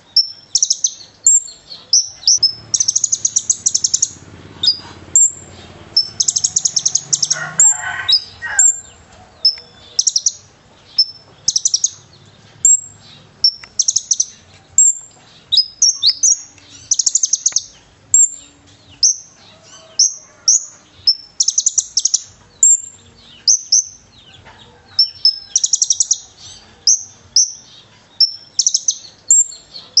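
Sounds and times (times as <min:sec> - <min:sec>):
sunbird singing trills and chirps: 0:00.0 - 0:24.4, 0:25.0 - 0:30.0.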